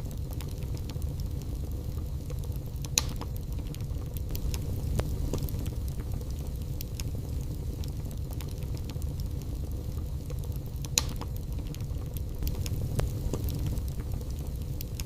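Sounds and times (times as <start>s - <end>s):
low rumble of fire: 0.0s - 15.0s
wood fire crackles and pops: 0.0s - 15.0s.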